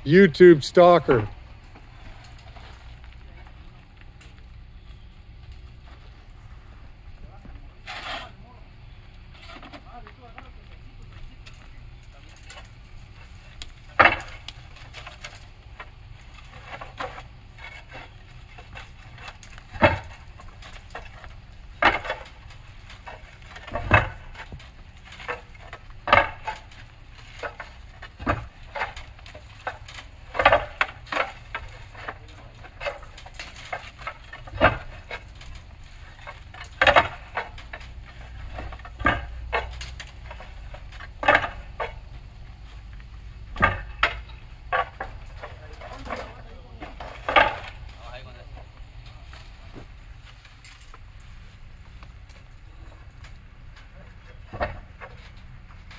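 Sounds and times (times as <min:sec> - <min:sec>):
low steady rumble: 0:00.0 - 0:55.9
roof tiles clacking: 0:09.3 - 0:55.9.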